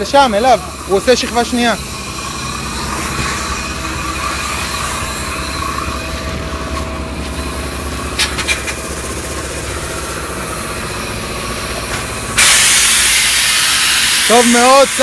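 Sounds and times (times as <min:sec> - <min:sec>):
engine running with low throb: 0:00.0 - 0:15.0.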